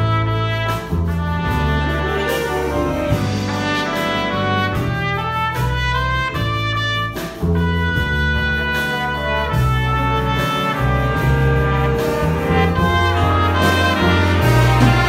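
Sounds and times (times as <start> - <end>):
jazz big band playing: 0.0 - 15.0
trumpet solo: 0.0 - 15.0.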